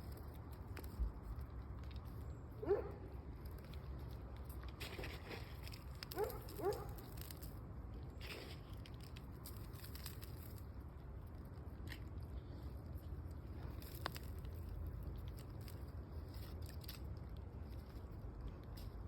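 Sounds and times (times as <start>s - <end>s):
soil crunching: 0.0s - 19.0s.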